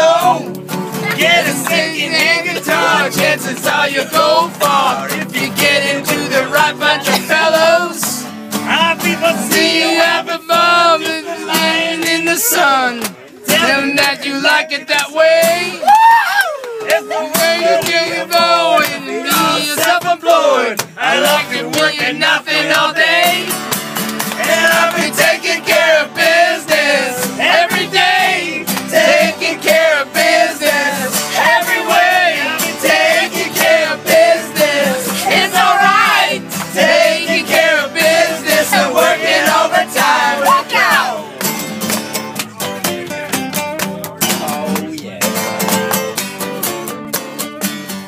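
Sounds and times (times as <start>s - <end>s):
strummed acoustic guitar: 0.0s - 15.8s, 16.8s - 48.0s
people singing: 0.0s - 15.9s, 16.8s - 41.4s.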